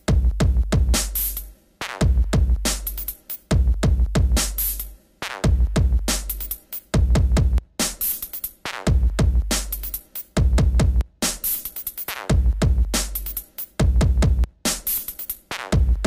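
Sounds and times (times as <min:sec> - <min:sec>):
electronic music with drum-machine beat: 0:00.0 - 0:16.0.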